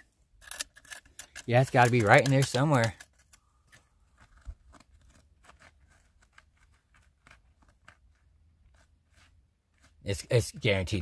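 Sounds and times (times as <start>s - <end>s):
hand pick scraping gravelly dirt: 0.0s - 11.0s.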